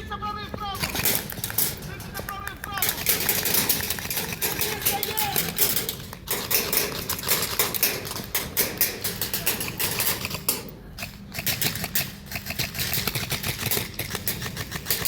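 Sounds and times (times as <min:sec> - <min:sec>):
airsoft guns firing bursts: 0:00.3 - 0:15.0.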